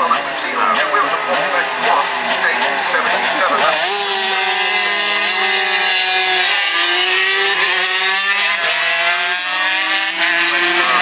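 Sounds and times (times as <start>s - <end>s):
racing motorcycles passing: 0.0s - 11.0s.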